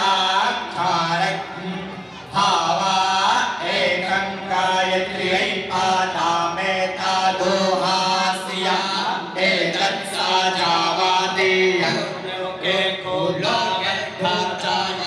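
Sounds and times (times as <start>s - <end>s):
men chanting mantras: 0.0s - 15.0s.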